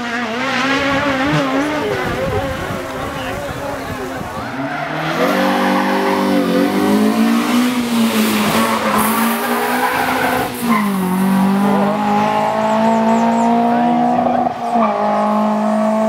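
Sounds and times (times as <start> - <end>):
race car engine revving high: 0.0 - 16.0
tyres squealing and skidding: 1.2 - 15.0.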